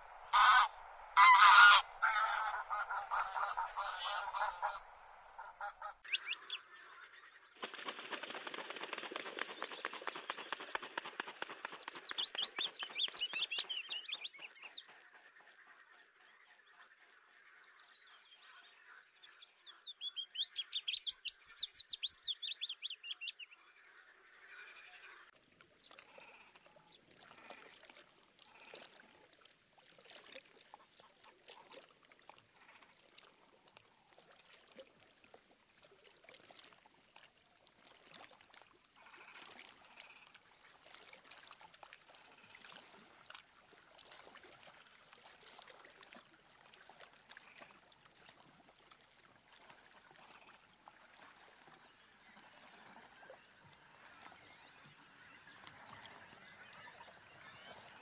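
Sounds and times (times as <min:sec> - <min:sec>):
faint water at the shore: 0:00.0 - 0:58.0.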